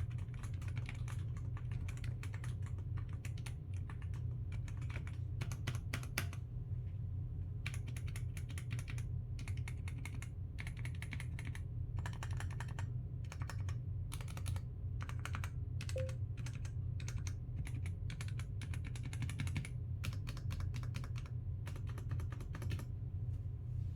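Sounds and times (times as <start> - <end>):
mechanical keyboard typing: 0.0 - 6.4, 7.6 - 22.9
steady low hum: 0.0 - 23.9.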